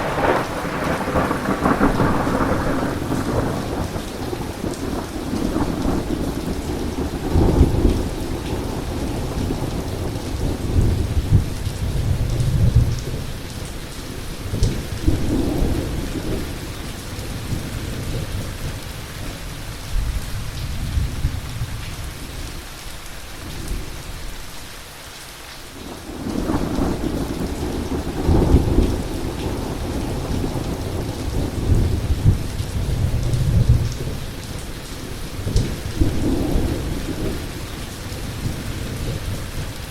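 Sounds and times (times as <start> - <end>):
rolling thunder: 0.0 - 13.7, 14.4 - 22.3, 25.8 - 39.9
heavy rain: 0.0 - 39.9.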